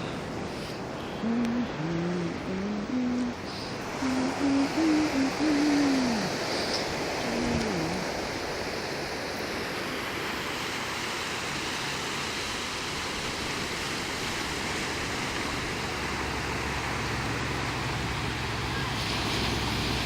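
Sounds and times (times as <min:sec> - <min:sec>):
low rumble of surf: 0:00.0 - 0:20.0
ocean waves rushing: 0:00.0 - 0:20.0.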